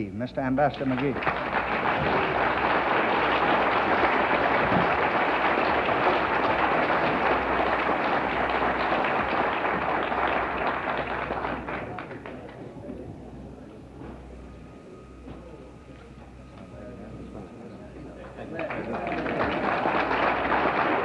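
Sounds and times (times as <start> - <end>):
crowd clapping: 0.5 - 13.2, 16.6 - 21.0.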